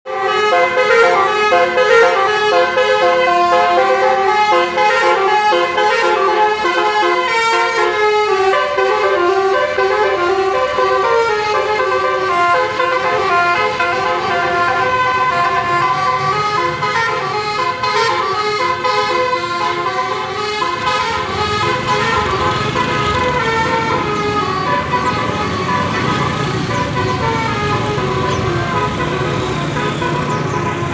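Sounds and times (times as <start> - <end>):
air horns playing a melody: 0.1 - 30.9.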